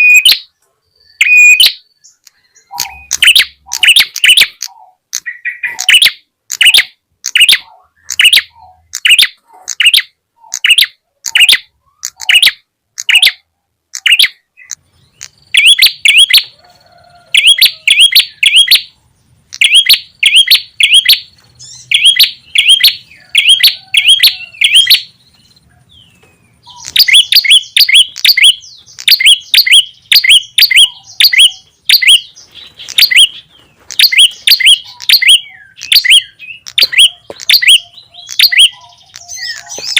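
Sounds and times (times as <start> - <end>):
bird chirping and chattering: 0.0 - 16.6, 17.3 - 39.9.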